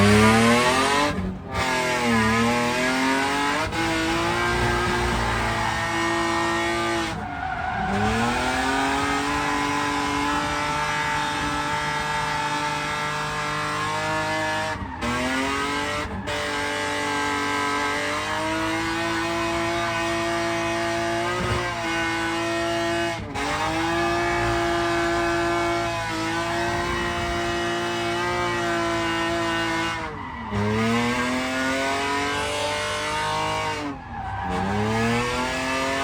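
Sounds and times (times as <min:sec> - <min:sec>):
car engine at high revs: 0:00.0 - 0:36.0.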